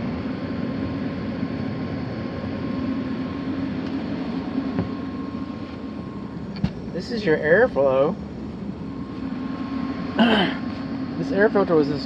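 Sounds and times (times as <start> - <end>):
air handler humming: 0.0 - 12.0
faint steady whine: 0.0 - 12.0.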